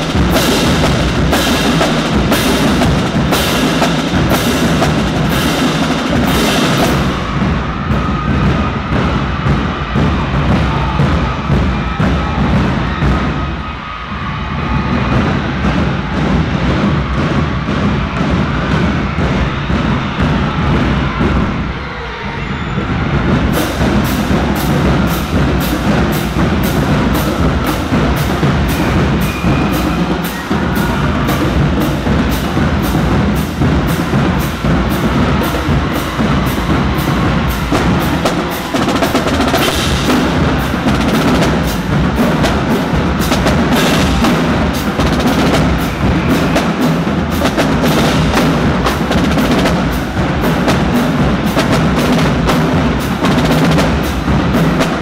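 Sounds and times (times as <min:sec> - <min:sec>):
marching drumline playing: 0:00.0 - 0:55.0.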